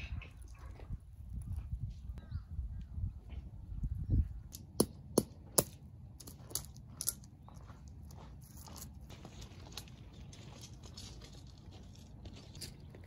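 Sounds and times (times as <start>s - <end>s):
low rumble of handling noise: 0.0s - 13.0s.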